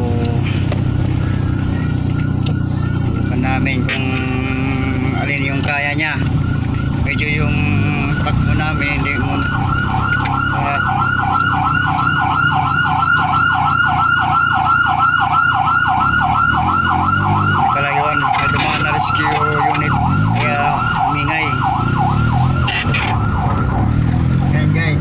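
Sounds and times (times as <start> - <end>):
car engine running: 0.0 - 25.0
siren yelping: 0.0 - 25.0.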